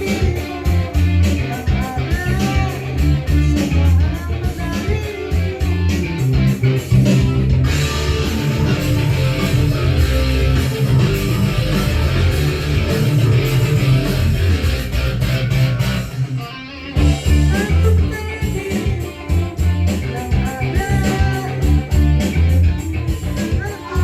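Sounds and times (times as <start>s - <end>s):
band music: 0.0s - 24.0s
bass guitar: 0.0s - 24.0s
electric guitar: 0.0s - 24.0s.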